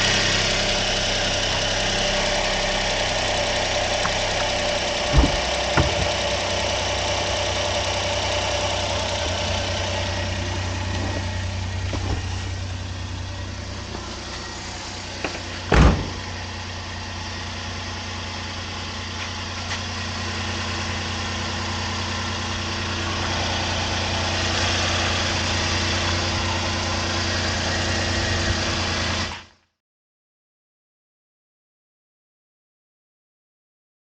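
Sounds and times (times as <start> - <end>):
engine idling: 0.0 - 29.5.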